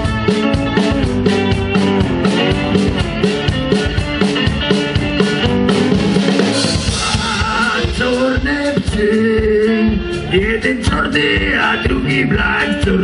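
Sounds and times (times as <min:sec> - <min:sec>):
blues guitar playing: 0:00.0 - 0:13.0
drum kit steady beat: 0:00.0 - 0:13.0.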